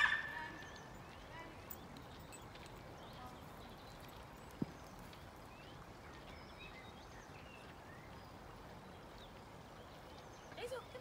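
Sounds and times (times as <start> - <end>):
low steady hiss: 0.3 - 11.0.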